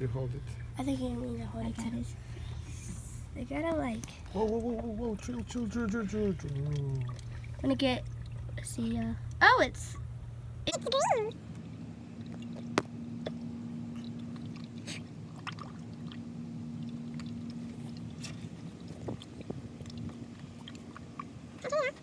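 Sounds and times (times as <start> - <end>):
oil glugging through a funnel: 0.0 - 22.0
steady low hum: 0.0 - 22.0.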